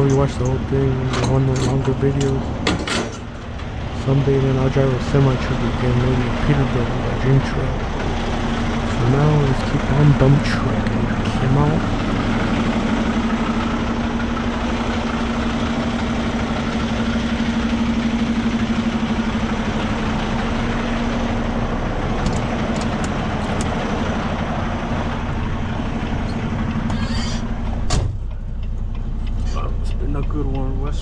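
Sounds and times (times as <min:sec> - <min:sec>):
diesel truck engine droning: 0:00.0 - 0:31.0.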